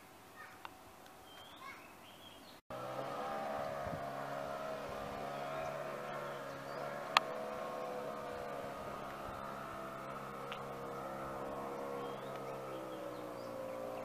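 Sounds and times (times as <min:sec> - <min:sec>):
engine droning steadily: 0:02.7 - 0:14.0.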